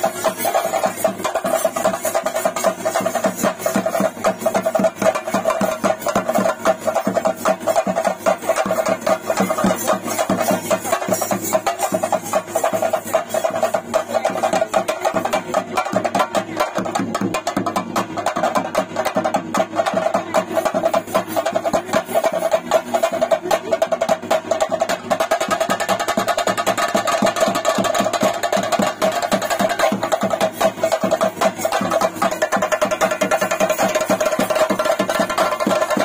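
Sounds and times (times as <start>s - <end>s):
cymbals: 0.0s - 36.0s
fast drumming: 0.0s - 36.0s.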